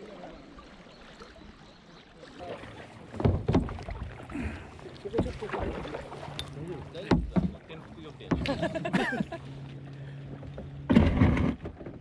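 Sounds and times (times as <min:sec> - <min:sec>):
paddle strokes in water: 0:00.0 - 0:12.0
water splashes: 0:00.0 - 0:12.0.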